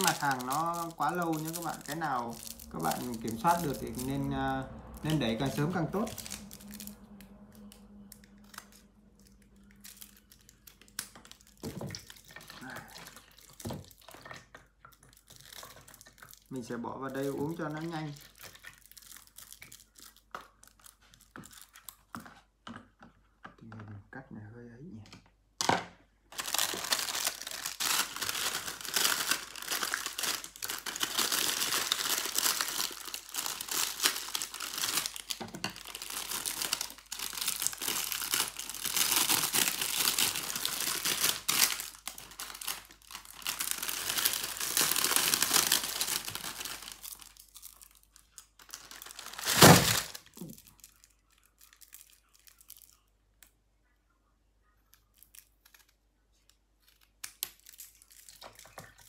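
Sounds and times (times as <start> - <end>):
plastic wrap crinkling and tearing: 0.0 - 22.6, 26.2 - 53.5, 54.9 - 59.0.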